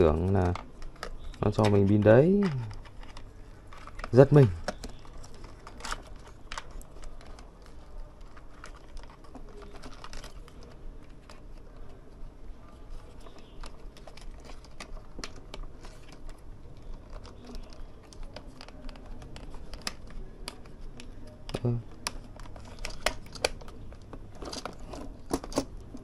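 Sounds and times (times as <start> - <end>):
small plastic parts clicking: 0.2 - 12.1, 13.0 - 26.0.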